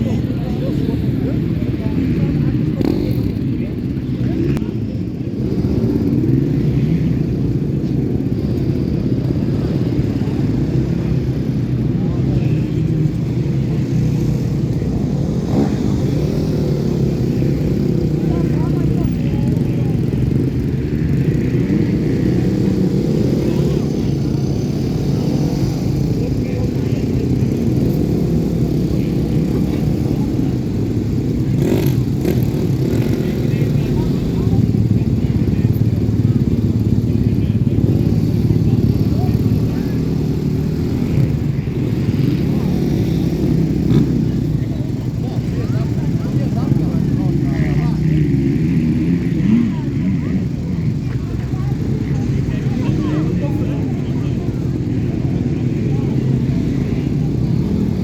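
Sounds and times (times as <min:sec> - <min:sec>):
dirt bike engines: 0:00.0 - 0:58.0.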